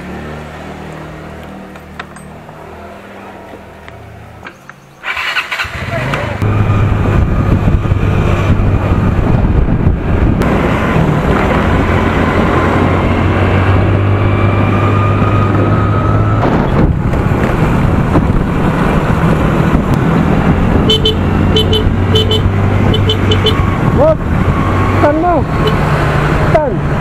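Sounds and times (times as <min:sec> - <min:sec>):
scooter engine humming: 0:00.0 - 0:27.0
wind and road noise: 0:00.0 - 0:27.0.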